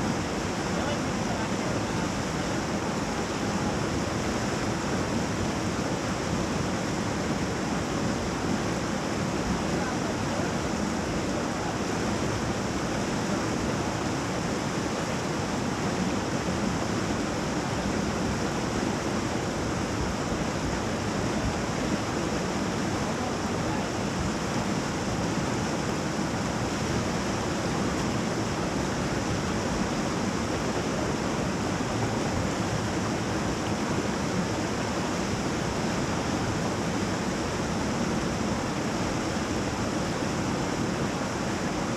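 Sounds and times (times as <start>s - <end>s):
river rapid rushing: 0.0s - 41.9s.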